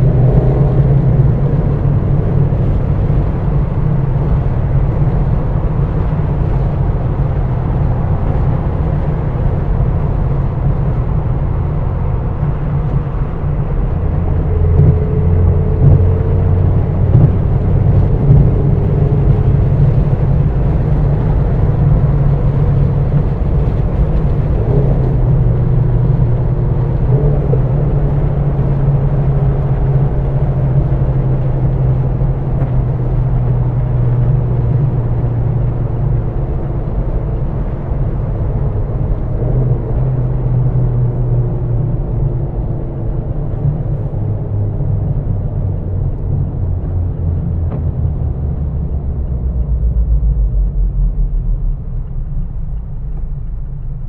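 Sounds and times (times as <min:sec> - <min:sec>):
wind noise: 0:00.0 - 0:53.9
car engine cruising: 0:00.0 - 0:54.0.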